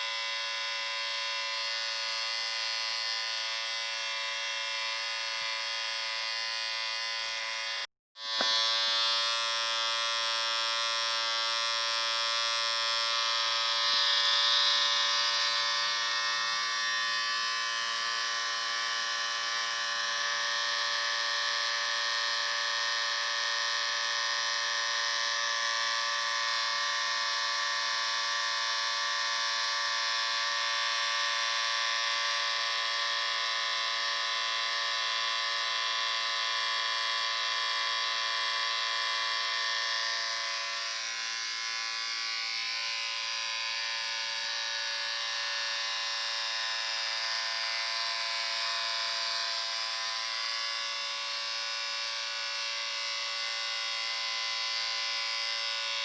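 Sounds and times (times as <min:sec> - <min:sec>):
electric shaver buzzing: 0:00.0 - 0:56.0.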